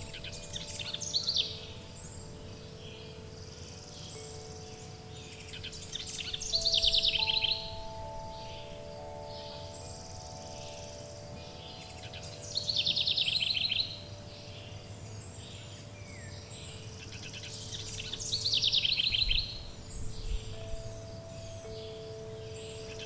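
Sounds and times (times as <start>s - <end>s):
low background hiss: 0.0s - 23.0s
songbird singing: 0.0s - 23.0s
wind chimes ringing: 0.0s - 23.0s.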